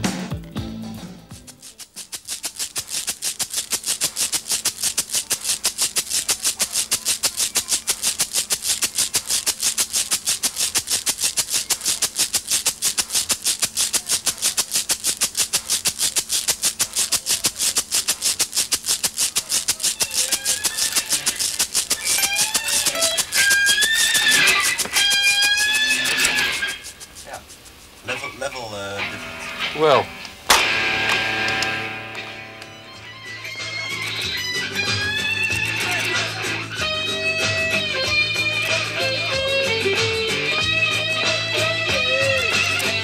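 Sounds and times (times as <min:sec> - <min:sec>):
tin shaker rattling: 0:01.0 - 0:43.0.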